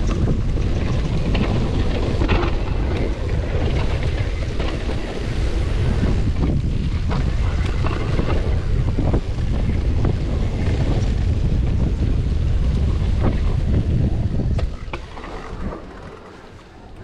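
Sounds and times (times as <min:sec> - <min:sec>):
bike knocking and rattling: 0:00.0 - 0:17.0
bike rolling over gravel trail: 0:00.0 - 0:17.0
wind rumble on microphone: 0:00.0 - 0:17.0.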